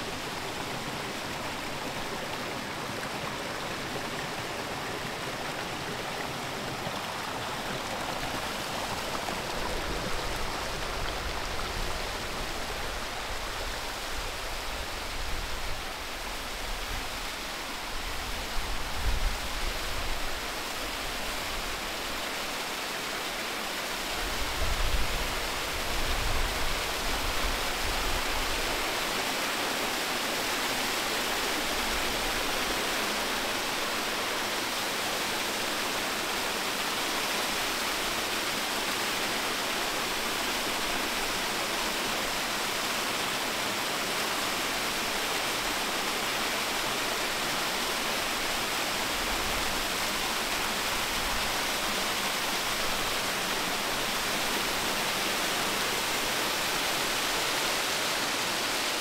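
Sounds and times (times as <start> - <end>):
brook water rushing: 0.0 - 59.0.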